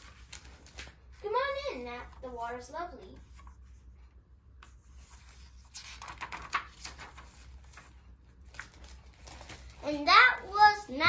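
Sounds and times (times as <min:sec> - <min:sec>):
book pages rustling: 0:00.0 - 0:11.0.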